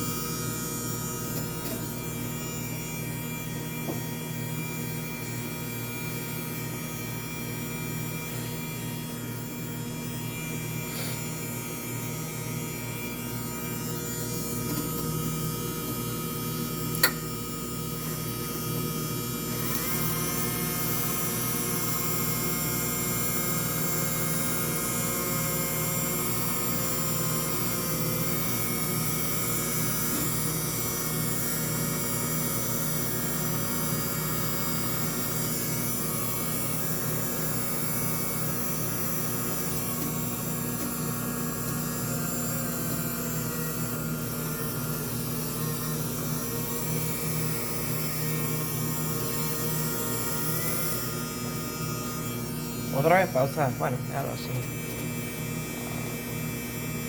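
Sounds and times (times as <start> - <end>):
electrical hum with fixed tones: 0.0 - 57.0.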